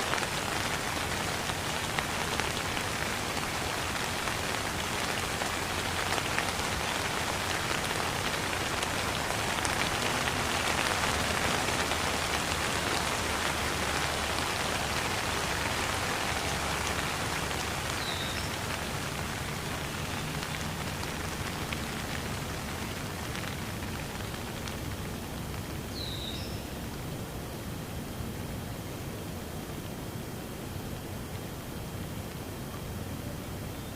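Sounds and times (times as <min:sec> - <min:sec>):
patter of raindrops: 0:00.0 - 0:33.9
steady rain hissing: 0:00.0 - 0:33.9.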